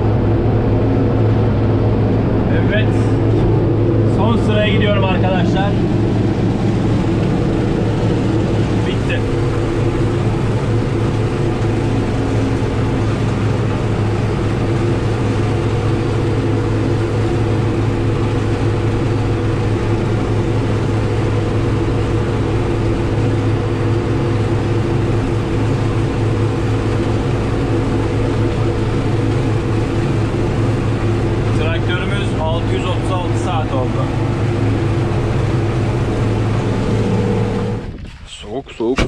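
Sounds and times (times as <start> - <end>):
tractor diesel engine humming: 0.0 - 39.0.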